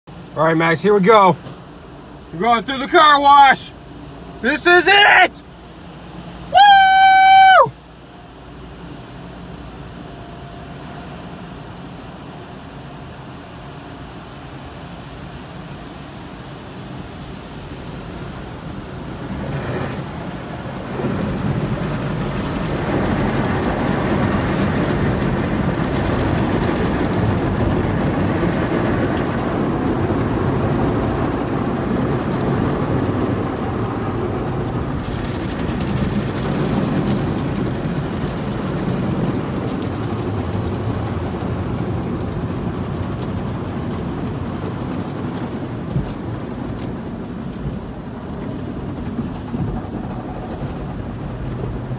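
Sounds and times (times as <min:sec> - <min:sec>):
car wash water spray: 0:00.1 - 0:51.9.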